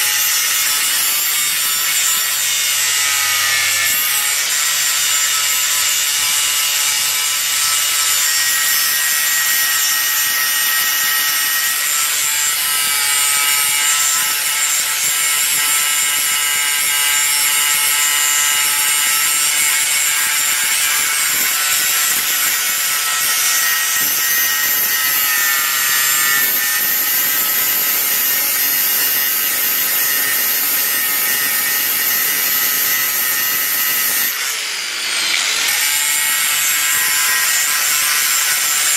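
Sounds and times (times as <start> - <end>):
power grinder grinding metal: 0.0 - 38.9.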